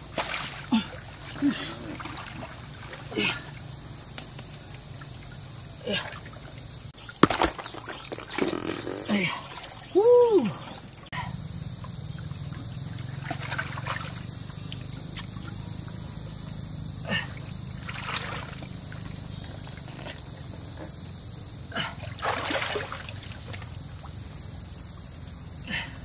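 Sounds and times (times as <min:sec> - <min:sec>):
muddy water splashing: 0:00.0 - 0:16.4, 0:17.1 - 0:20.6, 0:21.8 - 0:24.2.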